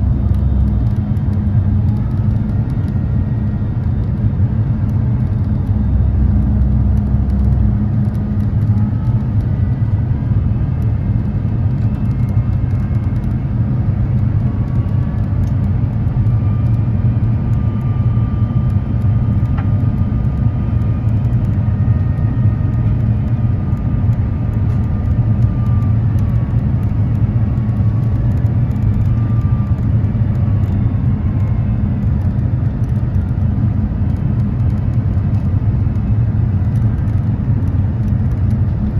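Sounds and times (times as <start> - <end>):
faint whining tones: 0.0 - 38.9
low rumble of engines and airflow: 0.0 - 38.9.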